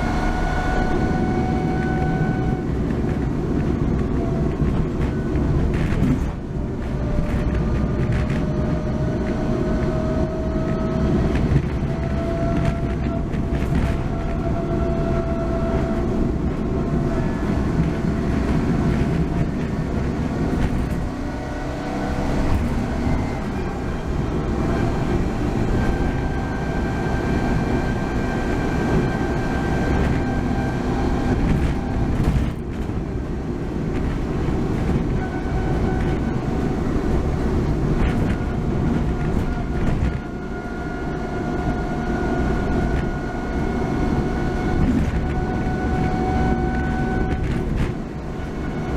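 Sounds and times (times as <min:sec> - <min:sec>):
transmission whine: 0:00.0 - 0:48.9
van road and drivetrain rumble: 0:00.0 - 0:48.9.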